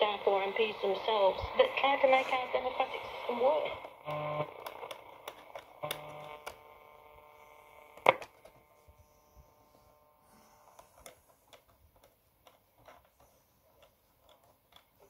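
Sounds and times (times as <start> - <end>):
radio crackle and ticks: 0.0 - 9.4, 10.0 - 15.0.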